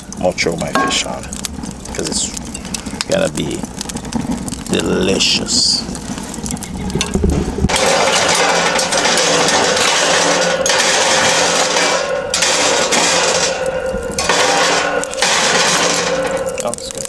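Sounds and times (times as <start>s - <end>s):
coals crackling and clinking: 0.0s - 17.0s
metal tool scraping charcoal: 0.6s - 17.0s.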